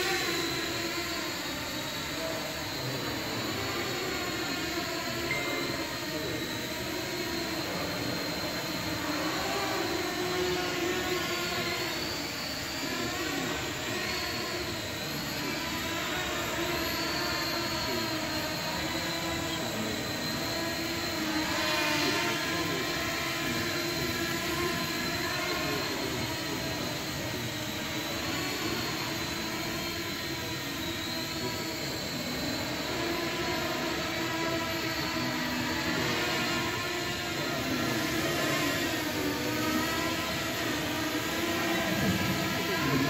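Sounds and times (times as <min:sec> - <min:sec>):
drone propellers buzzing: 0:00.0 - 0:43.0.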